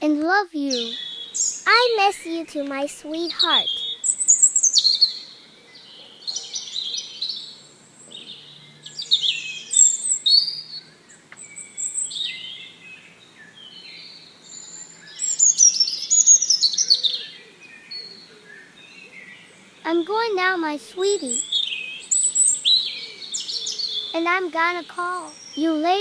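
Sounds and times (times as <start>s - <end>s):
small birds chirping: 0.6s - 26.0s.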